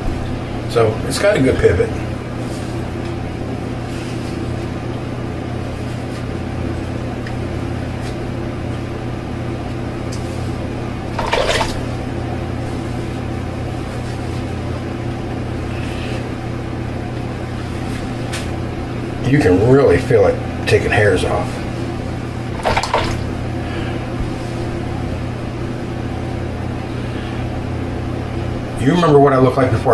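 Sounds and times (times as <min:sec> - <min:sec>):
mechanical hum: 0:00.0 - 0:29.9.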